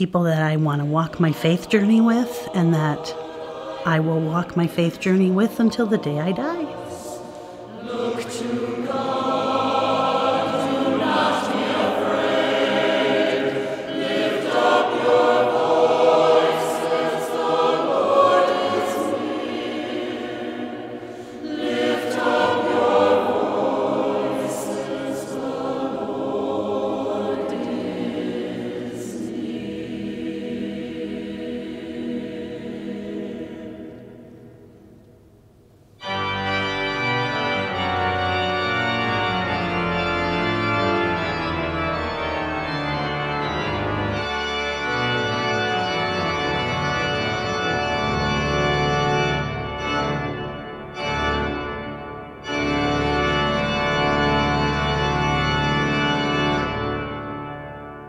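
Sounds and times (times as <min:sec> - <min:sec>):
choir singing with organ: 0:00.0 - 0:58.0
organ music: 0:00.0 - 0:58.0.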